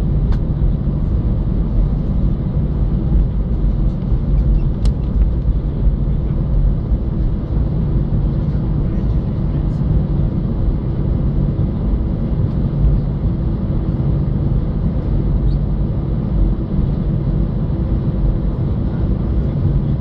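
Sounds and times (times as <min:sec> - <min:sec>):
jet engines rumbling in cabin: 0:00.0 - 0:20.0.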